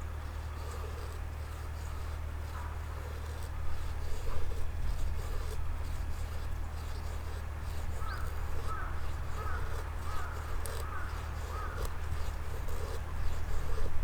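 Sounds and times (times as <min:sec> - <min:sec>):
light scraping and handling: 0:00.0 - 0:14.0.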